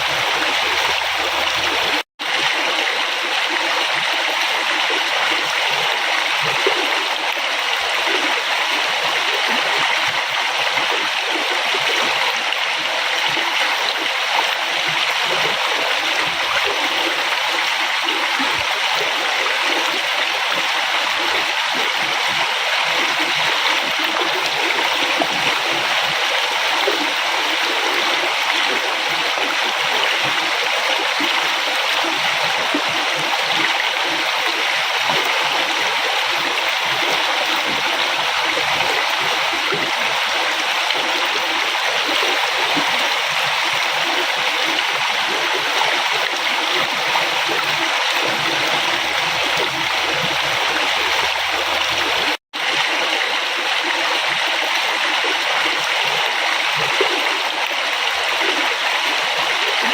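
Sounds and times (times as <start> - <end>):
river water flowing: 0.0 - 59.9
water splashing and gurgling: 0.0 - 59.9.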